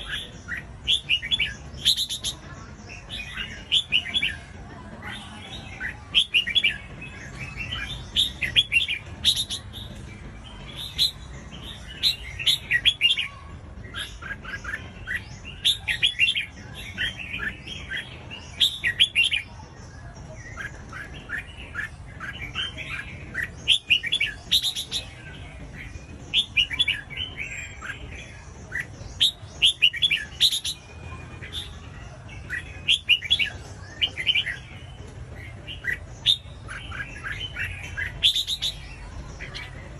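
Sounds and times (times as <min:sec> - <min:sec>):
birds singing whistled notes: 0:00.0 - 0:39.9.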